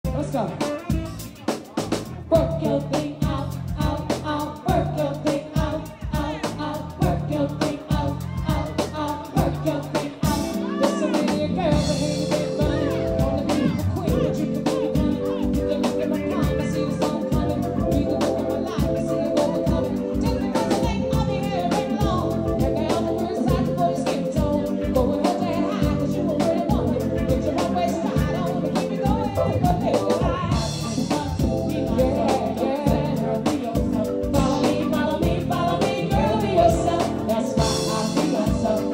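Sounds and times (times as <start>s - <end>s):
drum kit beat: 0.0s - 38.9s
keyboards: 0.0s - 38.9s
soul funk band playing: 0.0s - 38.9s
woman singing: 2.3s - 38.9s.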